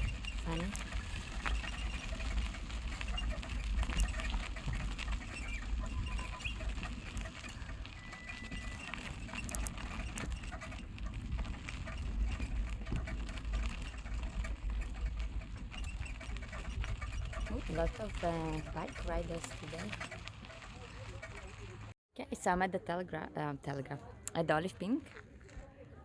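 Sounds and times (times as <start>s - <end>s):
bike clicks and ticks: 0.0s - 21.9s
wind buffeting microphone: 0.0s - 21.9s.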